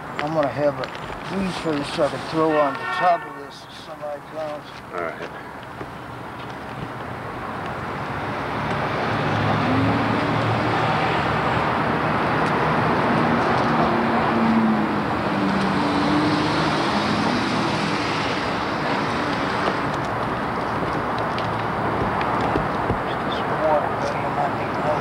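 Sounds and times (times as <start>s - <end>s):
street traffic engine and tyre noise: 0.0s - 25.0s.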